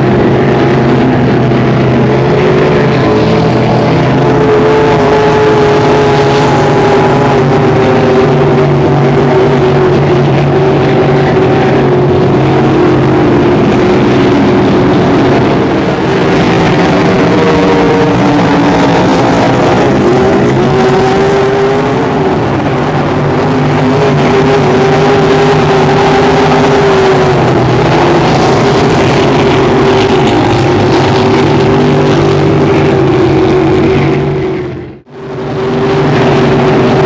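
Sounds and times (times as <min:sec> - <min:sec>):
speedboat engines racing: 0:00.0 - 0:37.0.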